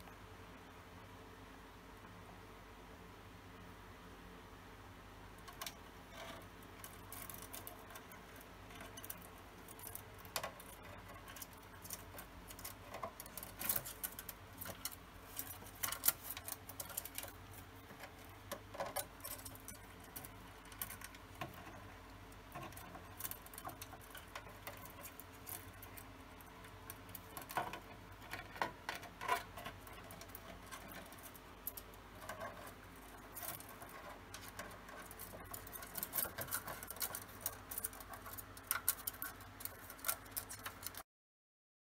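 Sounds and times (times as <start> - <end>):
bird pecking at plastic: 6.8 - 41.0.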